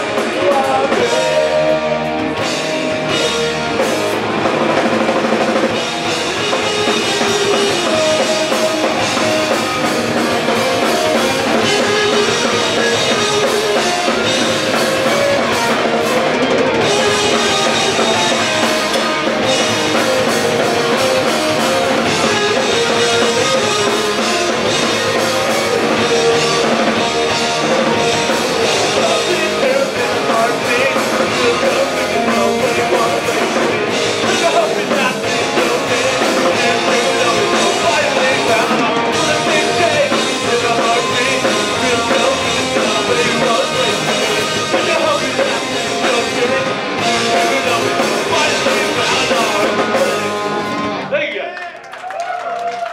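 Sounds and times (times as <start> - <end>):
person singing: 0.0 - 4.0, 6.1 - 50.8
drum kit: 0.0 - 51.1
punk rock band playing: 0.0 - 51.4
guitar: 0.0 - 51.5.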